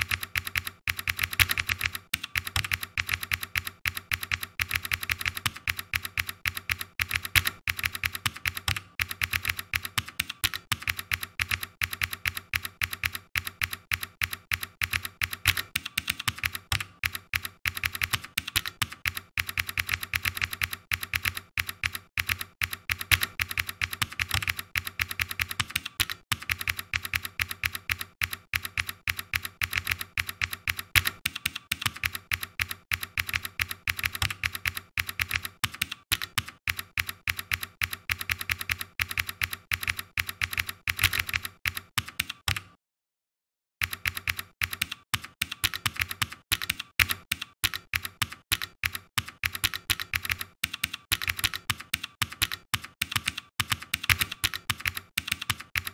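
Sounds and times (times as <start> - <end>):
rapid typing on keyboard: 0.0 - 42.8, 43.8 - 55.9.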